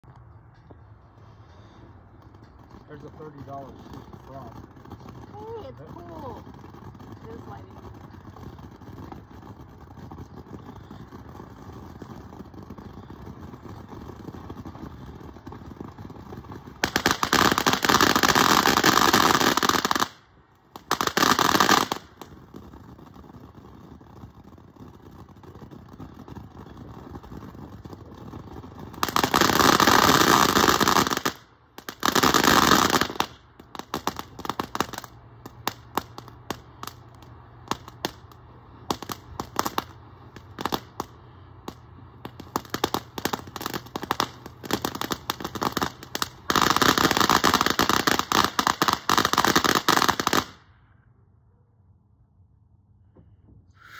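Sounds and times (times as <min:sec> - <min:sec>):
firework hissing: 0:01.2 - 0:50.6
sharp crackling pops: 0:01.5 - 0:50.6
firework sparks spraying: 0:02.8 - 0:50.6.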